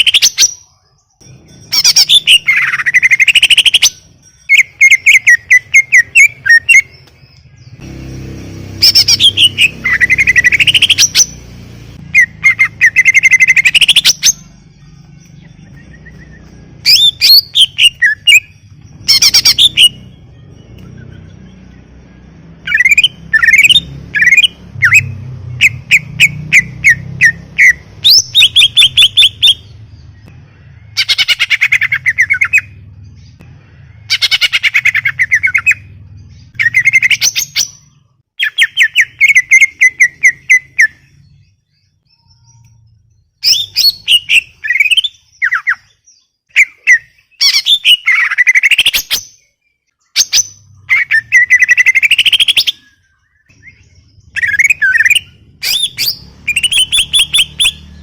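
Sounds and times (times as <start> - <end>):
bird singing chirps and whistles: 0.0 - 7.8, 8.7 - 58.0.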